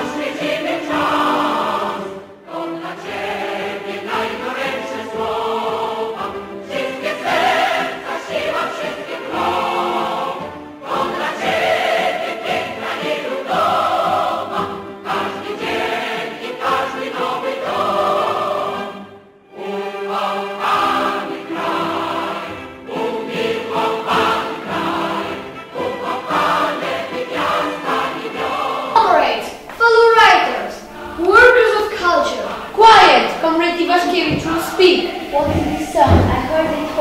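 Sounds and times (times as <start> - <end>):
choir singing: 0.0 - 37.0
musical backing: 0.0 - 37.0.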